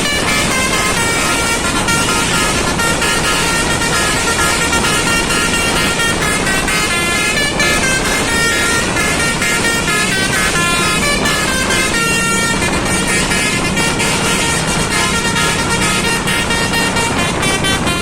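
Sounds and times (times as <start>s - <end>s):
musical air horn melody: 0.0s - 18.0s
road noise: 0.0s - 18.0s.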